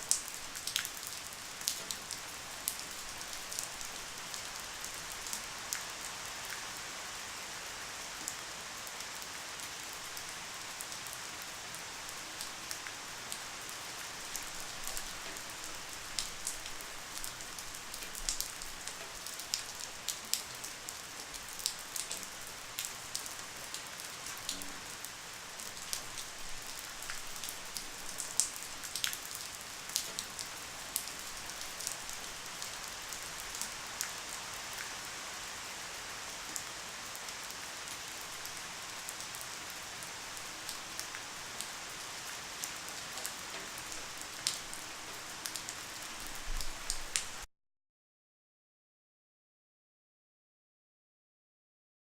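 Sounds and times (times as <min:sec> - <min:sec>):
light rain falling: 0:00.0 - 0:47.5.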